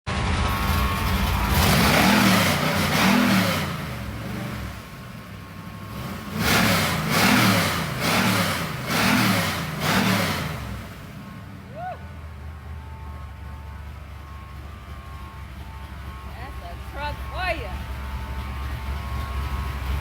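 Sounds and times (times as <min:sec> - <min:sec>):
pickup engine revving: 0:00.2 - 0:20.0.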